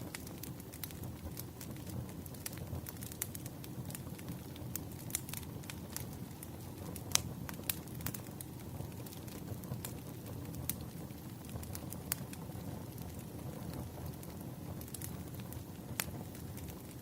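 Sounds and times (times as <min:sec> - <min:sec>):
fireplace fire crackling: 0:00.0 - 0:17.0
sharp fire pops: 0:00.0 - 0:17.0.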